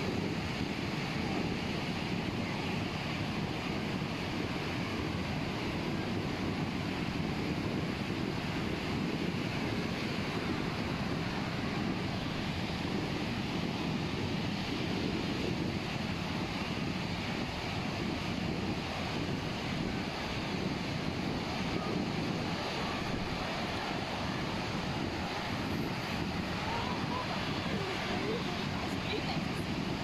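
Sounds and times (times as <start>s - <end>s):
surf washing on a beach: 0.0s - 30.0s
wind buffeting microphone: 0.0s - 30.0s.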